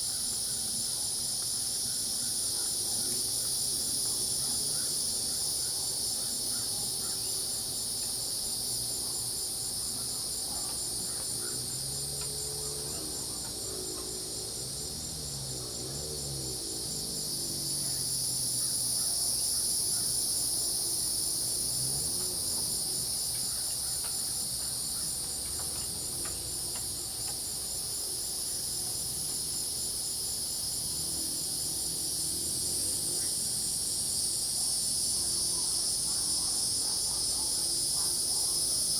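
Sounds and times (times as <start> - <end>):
cicadas buzzing: 0.0 - 38.9
cricket trill: 0.0 - 38.9
low wavering insect calls: 0.0 - 38.9.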